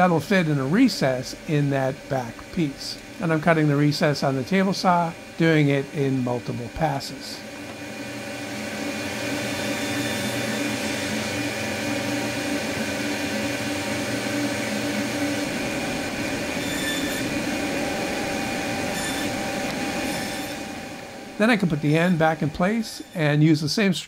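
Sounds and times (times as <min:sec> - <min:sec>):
table saw cutting wood: 0:00.0 - 0:23.7.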